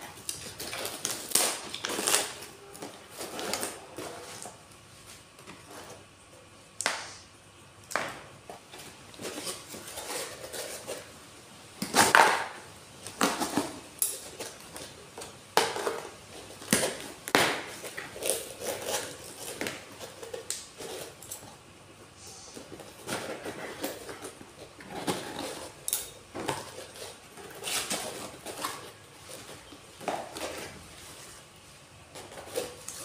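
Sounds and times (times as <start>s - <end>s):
cardboard rustling and scraping: 0.0s - 6.2s, 8.6s - 21.7s, 22.5s - 33.0s.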